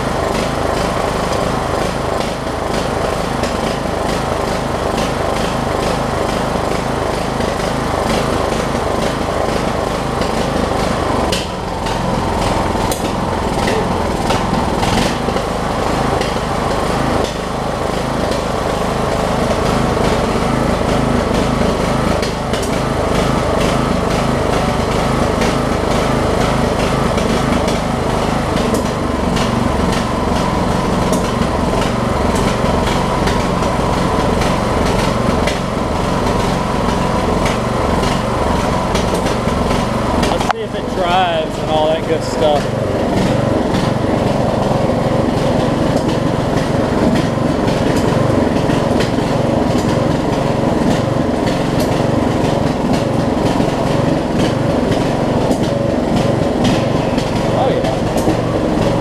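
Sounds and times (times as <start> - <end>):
riding mower engine running: 0.0 - 59.0.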